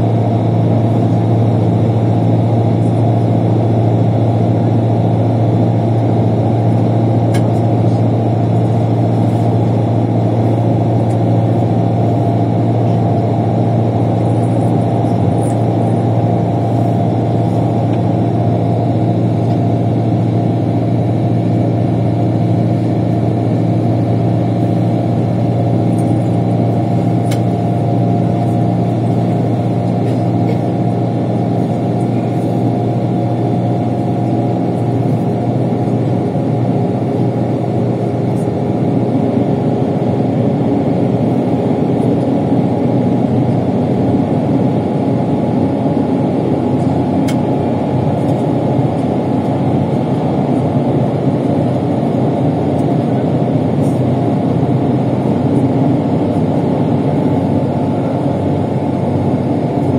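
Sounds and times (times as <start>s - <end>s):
bus engine and road drone: 0.0s - 59.9s.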